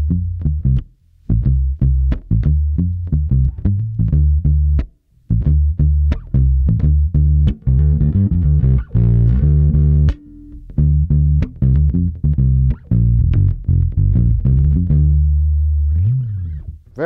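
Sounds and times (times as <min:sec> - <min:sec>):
electric bass plucked notes: 0:00.0 - 0:17.0.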